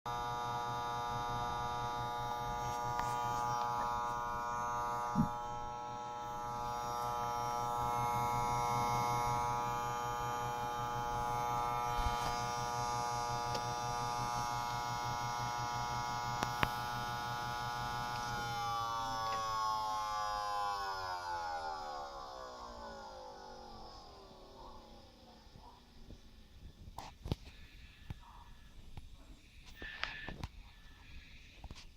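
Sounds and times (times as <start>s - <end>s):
computer buzzing whine: 0.1s - 31.8s.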